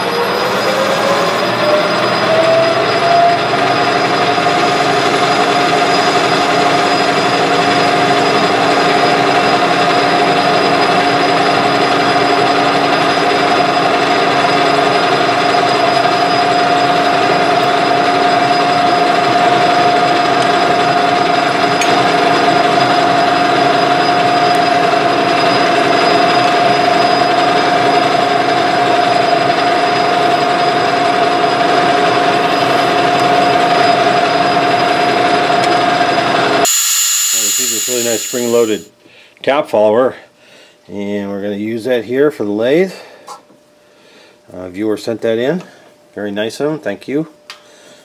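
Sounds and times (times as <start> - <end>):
metal lathe whine: 0.0 - 38.9.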